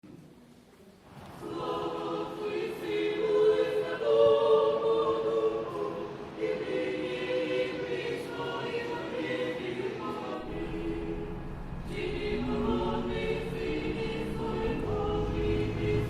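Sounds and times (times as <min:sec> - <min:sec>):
choir singing unaccompanied: 0:01.2 - 0:16.0.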